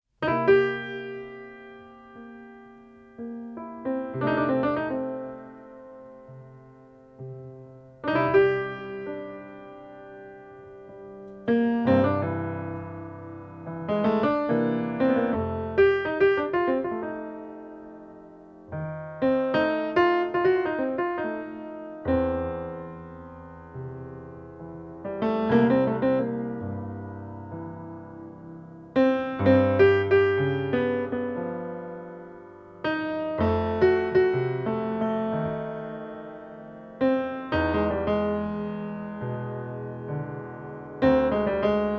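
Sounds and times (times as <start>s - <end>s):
slow piano chords: 0.1s - 41.9s.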